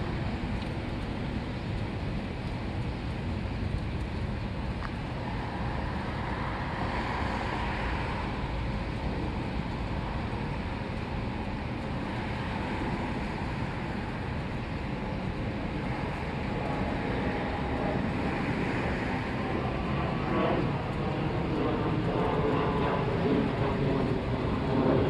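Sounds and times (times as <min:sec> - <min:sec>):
road traffic hum: 0:00.0 - 0:21.6
wind rumbling on microphone: 0:00.0 - 0:25.0.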